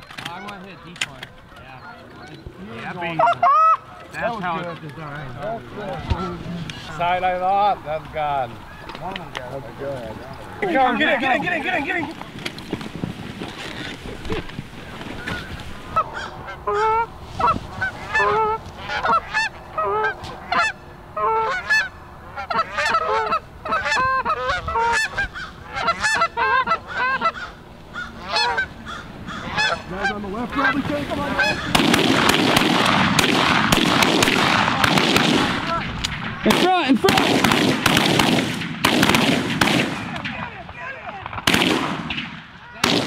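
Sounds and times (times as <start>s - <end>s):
geese honking: 0.0s - 12.3s, 14.8s - 38.2s.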